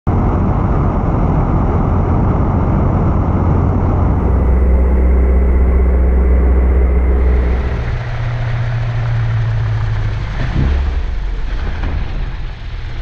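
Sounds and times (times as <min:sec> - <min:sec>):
light aircraft engine and propeller: 0:00.1 - 0:13.0
rushing air: 0:00.2 - 0:13.0.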